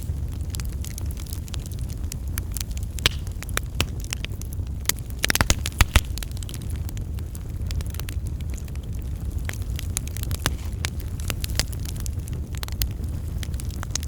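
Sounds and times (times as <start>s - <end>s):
fire crackling with sharp pops: 0.0s - 14.0s
low rumble of flames: 0.0s - 14.0s.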